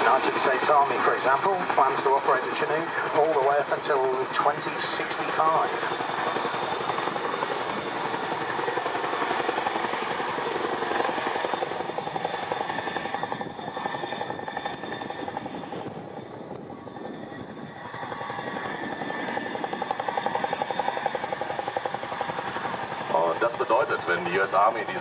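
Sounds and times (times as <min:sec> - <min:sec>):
helicopter rotors beating: 0:00.0 - 0:25.0
helicopter turbine whine: 0:00.0 - 0:25.0.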